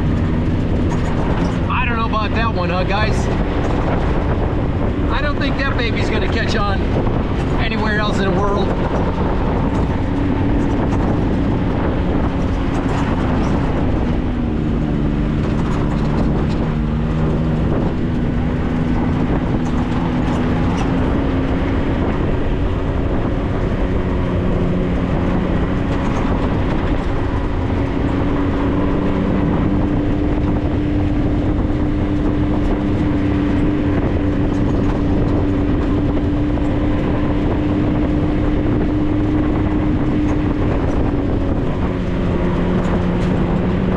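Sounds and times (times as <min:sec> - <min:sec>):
drivetrain rumble: 0:00.0 - 0:43.9
vehicle engine running: 0:00.0 - 0:43.9.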